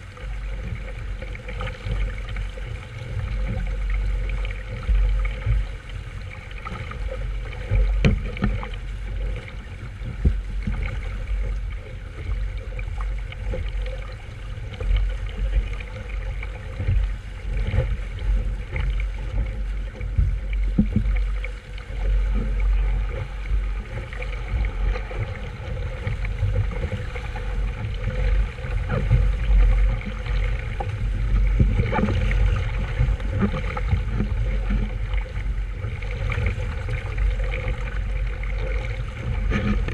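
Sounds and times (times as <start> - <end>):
water sloshing against hull: 0.0 - 39.9.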